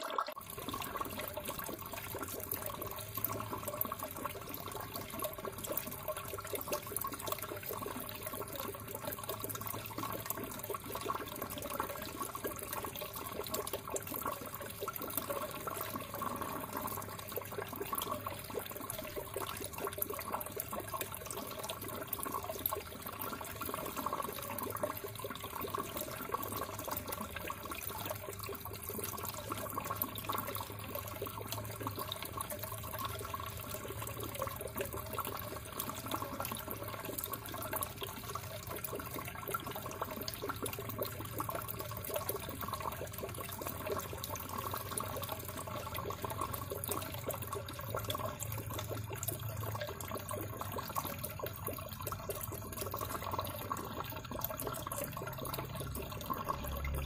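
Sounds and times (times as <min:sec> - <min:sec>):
water pouring and splashing: 0:00.0 - 0:57.0.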